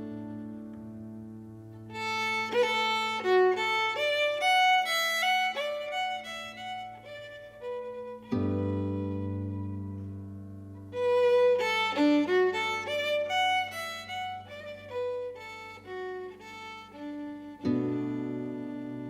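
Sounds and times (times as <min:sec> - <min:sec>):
fiddle music: 0:00.0 - 0:19.0.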